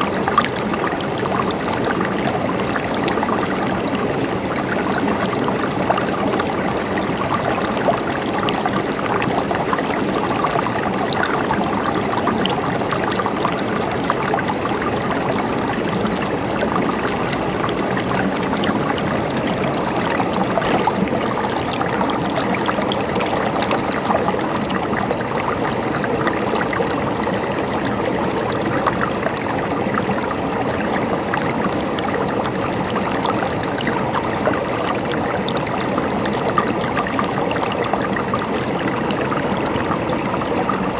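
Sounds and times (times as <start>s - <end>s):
water trickling and babbling: 0.0s - 40.9s.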